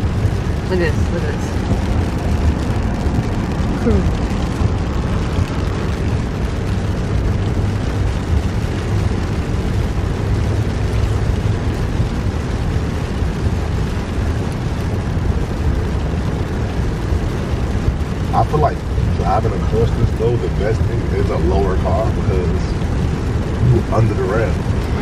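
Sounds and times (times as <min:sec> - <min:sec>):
rain on car: 0:00.0 - 0:25.0
tyres on wet road: 0:00.0 - 0:25.0.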